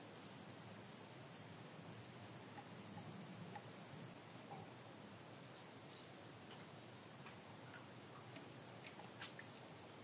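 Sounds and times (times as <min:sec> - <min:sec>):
insects droning: 0:00.0 - 0:10.0
low hiss: 0:00.0 - 0:10.0.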